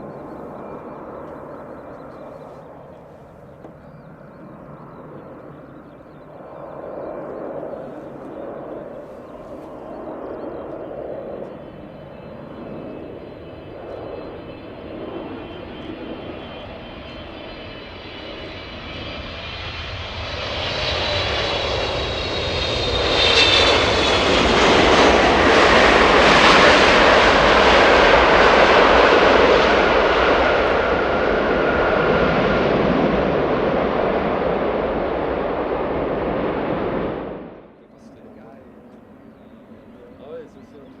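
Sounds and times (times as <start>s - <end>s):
jet engines roaring past: 0.0s - 41.0s.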